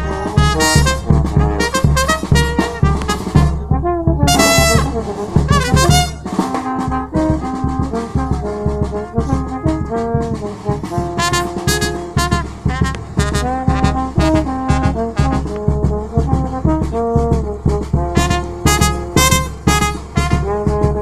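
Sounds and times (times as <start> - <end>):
bass drum beats: 0.0 - 21.0
trombones playing a tune: 0.0 - 21.0.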